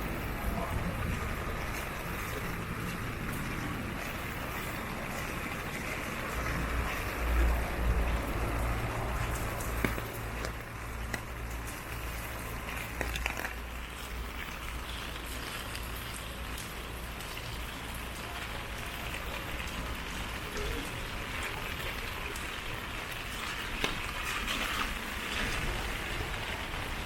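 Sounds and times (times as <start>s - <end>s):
raindrop clicks: 0.0s - 27.0s
steady rain: 0.0s - 27.0s.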